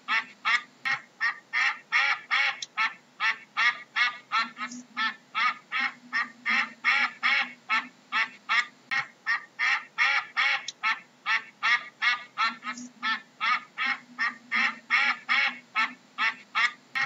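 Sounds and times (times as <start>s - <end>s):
duck quacking: 0.1s - 17.0s.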